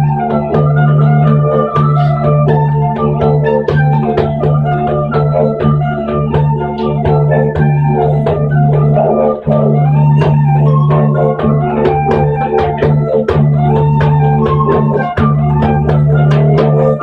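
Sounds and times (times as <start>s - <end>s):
didgeridoo drone: 0.0s - 17.0s
plucked notes melody: 0.0s - 17.0s.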